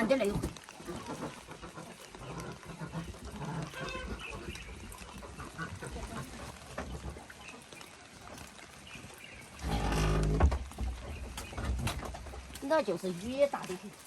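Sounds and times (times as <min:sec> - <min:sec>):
ducks quacking: 0:00.0 - 0:14.0
rustling: 0:00.0 - 0:14.0.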